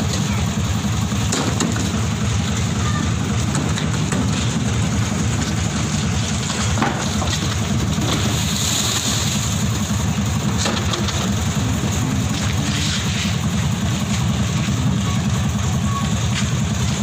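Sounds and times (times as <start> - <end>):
heavy engine rumbling: 0.0 - 17.0.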